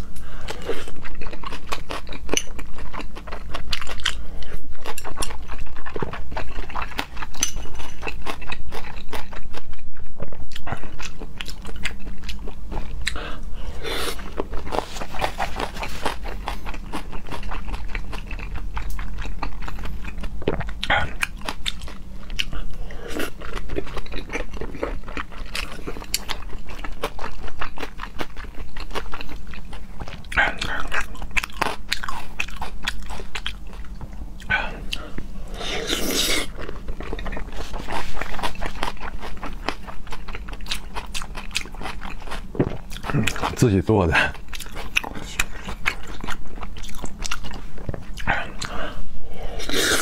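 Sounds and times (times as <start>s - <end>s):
close chewing with wet mouth clicks: 0.9s - 13.2s, 14.1s - 35.2s, 35.8s - 43.7s, 44.3s - 48.8s.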